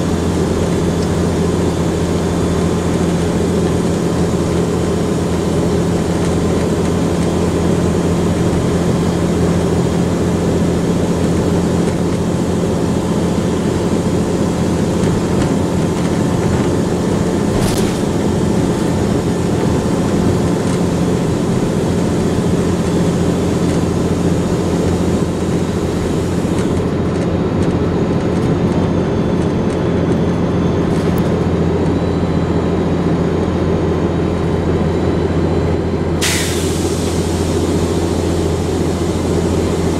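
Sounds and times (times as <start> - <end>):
diesel bus engine droning: 0.0 - 39.9.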